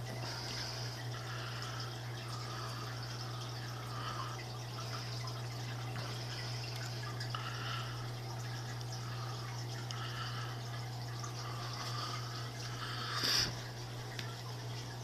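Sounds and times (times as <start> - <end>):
water trickling and bubbling: 0.0 - 15.0.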